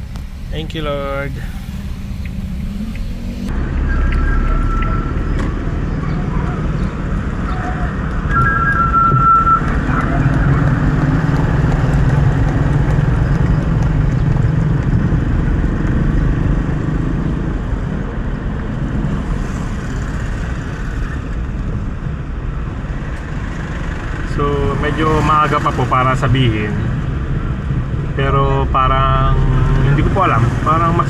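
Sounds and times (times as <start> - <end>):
car engine hum while driving: 0.0 - 31.0.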